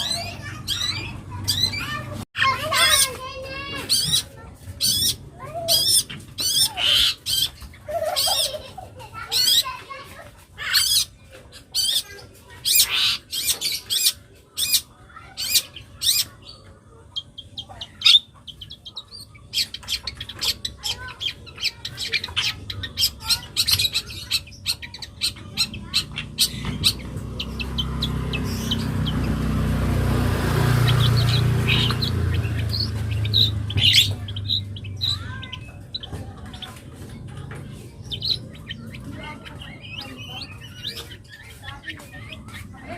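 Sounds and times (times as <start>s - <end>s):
shrike singing chattering phrases: 0.0s - 42.9s.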